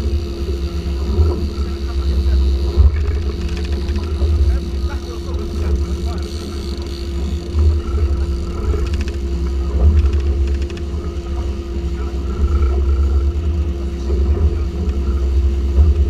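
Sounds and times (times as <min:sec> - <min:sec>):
outboard engines droning: 0:00.0 - 0:16.0.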